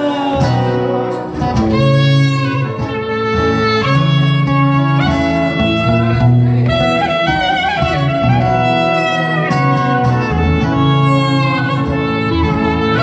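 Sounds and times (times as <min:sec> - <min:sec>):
acoustic guitar accompaniment: 0:00.0 - 0:13.0
clarinet melody: 0:00.0 - 0:13.0.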